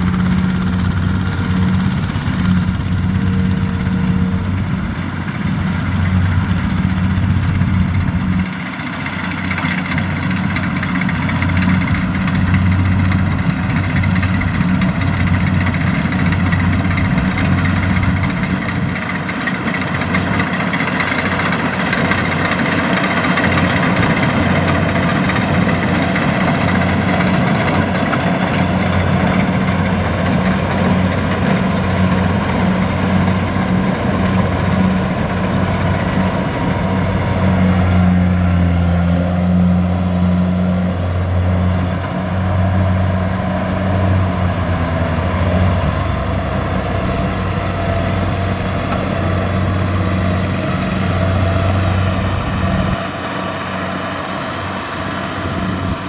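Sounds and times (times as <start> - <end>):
diesel engine drone: 0.0 - 56.0
threshing machinery whir: 0.0 - 56.0.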